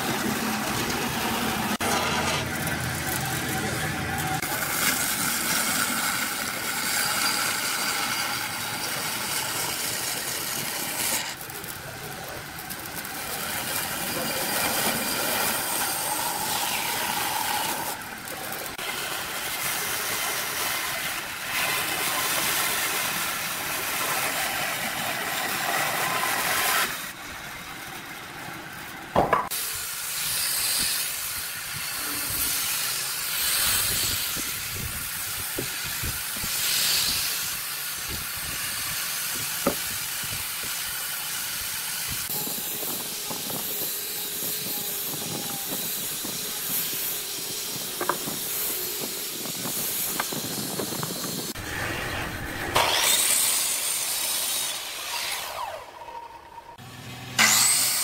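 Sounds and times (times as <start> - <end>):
angle grinder sanding wood: 0.0 - 27.2, 29.2 - 58.0
bandsaw cutting wood: 0.0 - 27.2, 29.2 - 58.0.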